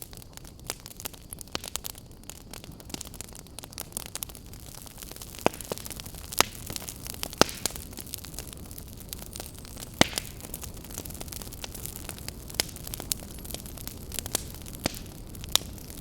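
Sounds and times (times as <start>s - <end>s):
campfire crackling: 0.0s - 16.0s
loud fire pops: 0.0s - 16.0s.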